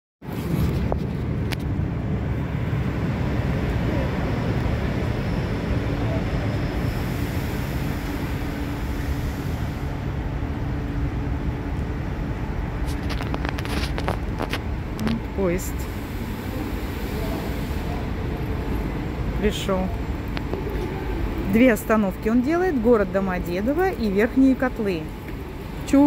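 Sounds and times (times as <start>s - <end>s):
train hum: 0.2s - 26.0s
train rumbling: 0.2s - 26.0s.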